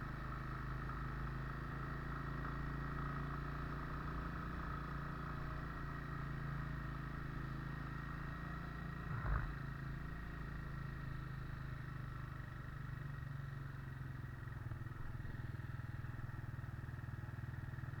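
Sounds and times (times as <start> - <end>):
vehicle engine and road drone: 0.0 - 18.0.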